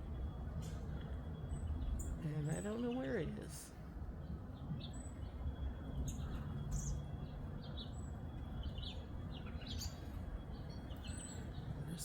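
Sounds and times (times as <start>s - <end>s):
low outdoor rumble: 0.0s - 12.0s
small songbirds chirping: 0.0s - 12.0s.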